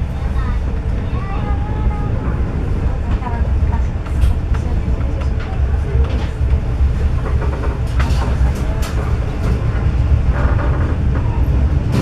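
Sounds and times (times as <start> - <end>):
train rumble inside coach: 0.0 - 12.0.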